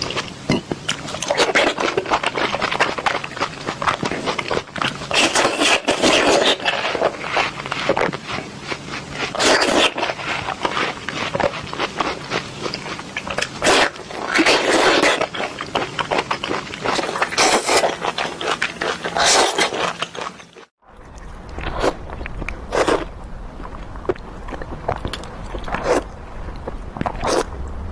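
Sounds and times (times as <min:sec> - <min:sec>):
crunchy fruit chewing: 0:00.0 - 0:27.5.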